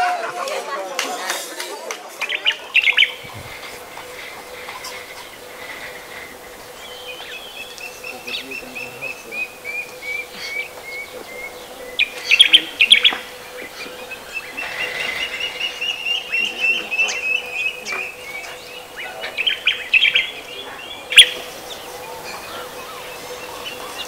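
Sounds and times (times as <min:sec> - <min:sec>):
birds chirping: 0:02.1 - 0:24.0
faint steady hum: 0:02.4 - 0:24.0.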